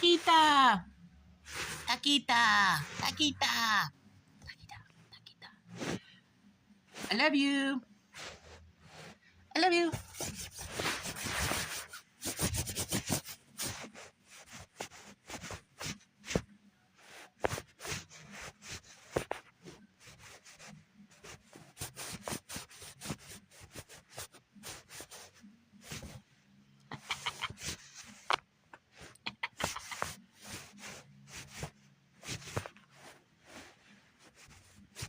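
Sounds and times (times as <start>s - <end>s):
scratching and rubbing: 1.4s - 3.4s, 8.1s - 35.0s.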